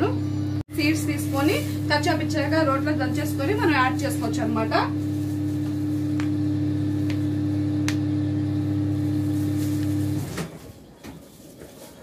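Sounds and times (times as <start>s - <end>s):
microwave humming: 0.0s - 11.0s.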